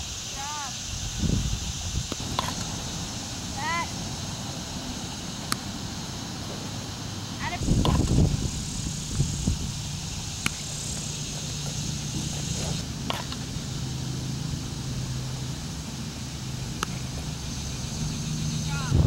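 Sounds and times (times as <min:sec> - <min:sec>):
engine humming: 0:01.0 - 0:19.0.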